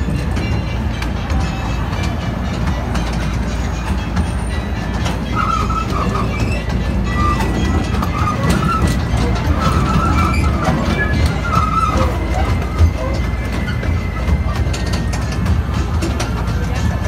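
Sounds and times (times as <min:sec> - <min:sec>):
train carriage rumbling and clicking: 0:00.0 - 0:17.0.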